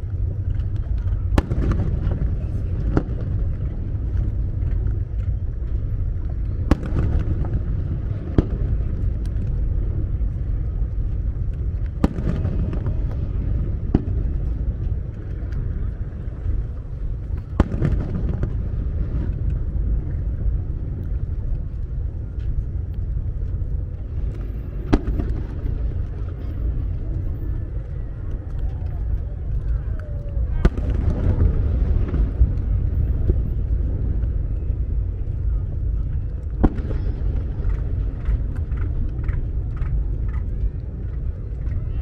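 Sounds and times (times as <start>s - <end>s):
low rumble: 0.0s - 42.0s
fireworks booming: 0.7s - 21.5s, 24.0s - 27.6s, 30.3s - 40.4s.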